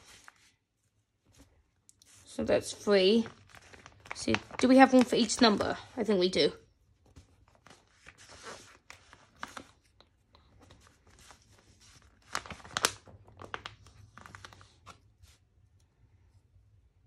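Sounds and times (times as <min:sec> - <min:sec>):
paper sheet crinkling: 0:01.2 - 0:15.7.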